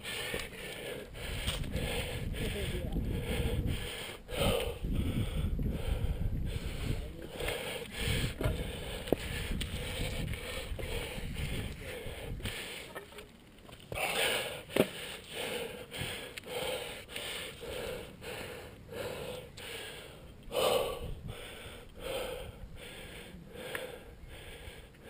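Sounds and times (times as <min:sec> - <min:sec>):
heavy breathing: 0:00.0 - 0:13.2, 0:13.9 - 0:25.0.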